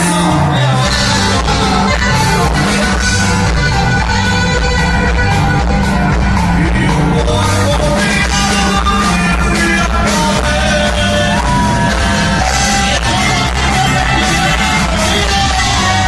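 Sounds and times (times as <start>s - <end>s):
live rock band playing: 0.0s - 16.0s
person singing: 0.0s - 16.0s.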